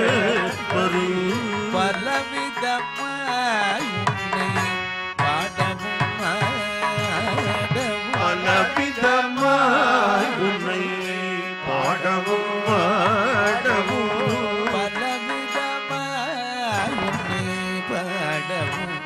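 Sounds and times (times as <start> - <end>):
person singing wordless melody: 0.0 - 19.0.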